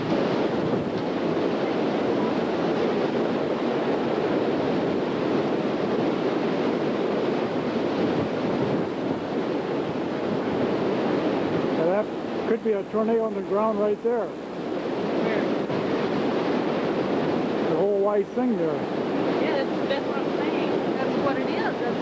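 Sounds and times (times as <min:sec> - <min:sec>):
storm wind on microphone: 0:00.0 - 0:22.0.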